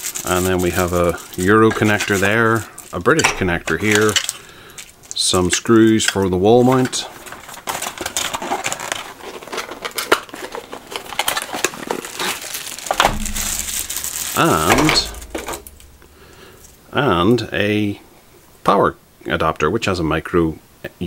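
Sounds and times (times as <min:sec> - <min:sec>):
plastic bag crinkling: 0:00.0 - 0:16.9.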